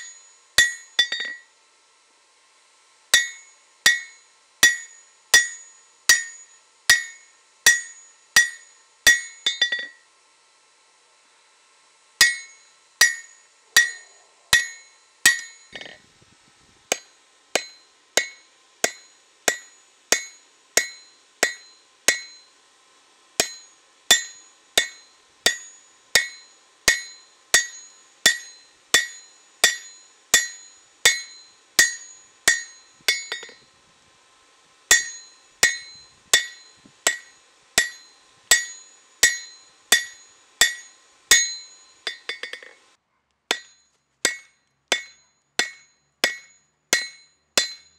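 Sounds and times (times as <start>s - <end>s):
hammer striking steel on anvil: 0.0s - 1.5s, 3.1s - 10.0s, 12.2s - 16.0s, 16.9s - 22.6s, 23.4s - 33.6s, 34.9s - 42.8s, 43.5s - 47.9s.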